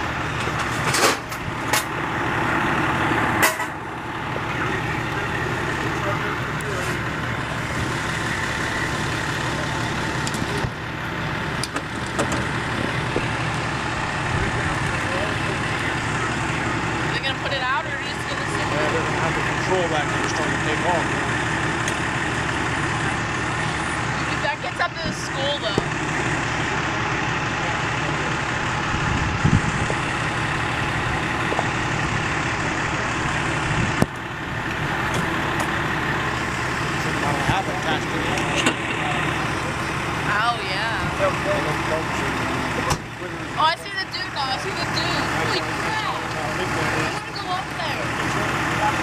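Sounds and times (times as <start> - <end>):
truck engine idling: 0.0 - 49.0.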